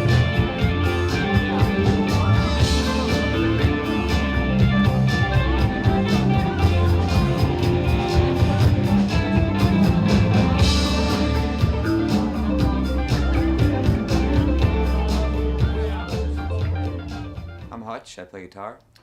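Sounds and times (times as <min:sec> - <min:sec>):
rock band playing: 0:00.0 - 0:17.7.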